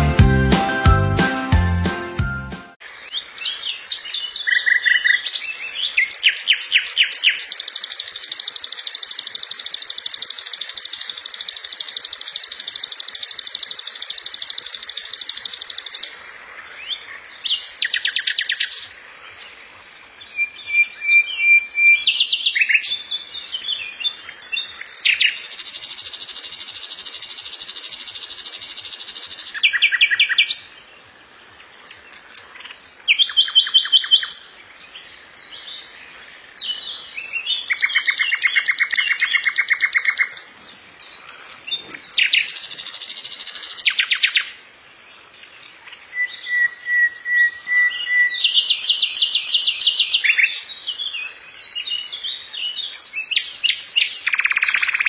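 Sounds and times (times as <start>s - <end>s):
nightingale singing: 0.0s - 30.9s, 31.5s - 55.0s.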